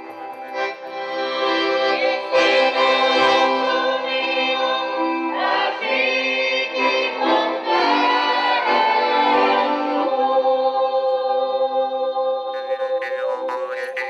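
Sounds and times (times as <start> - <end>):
accordion: 0.0 - 11.0, 12.5 - 14.0
folk group singing in chorus: 1.5 - 13.3.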